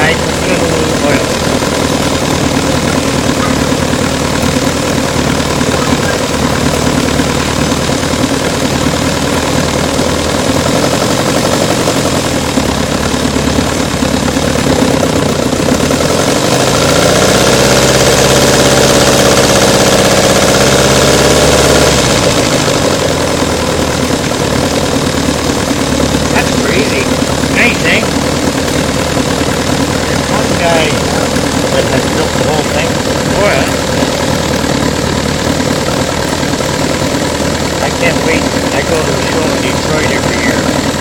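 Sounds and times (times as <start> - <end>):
small model engine running: 0.0 - 41.0.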